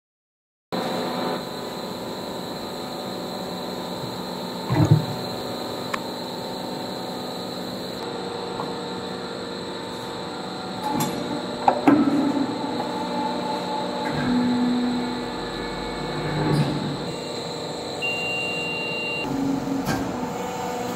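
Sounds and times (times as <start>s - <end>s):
machine hum and high whine: 0.8s - 20.9s.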